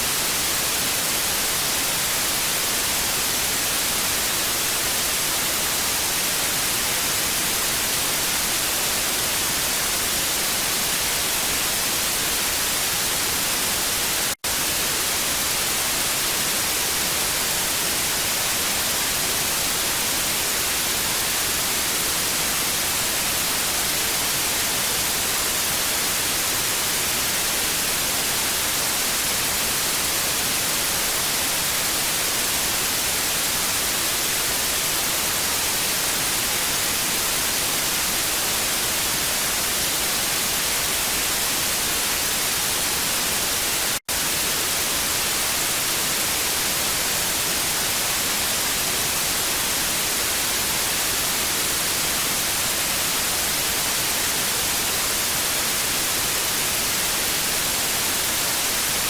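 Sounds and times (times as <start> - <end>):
tv static hiss: 0.0 - 59.0.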